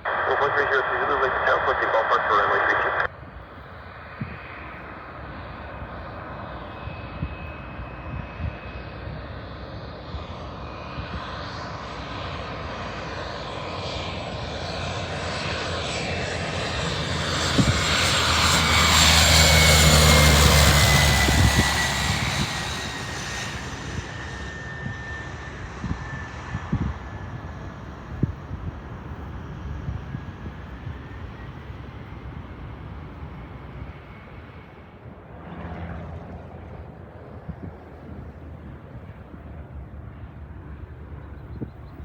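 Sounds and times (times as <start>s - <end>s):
propeller plane passing: 0.1s - 42.0s.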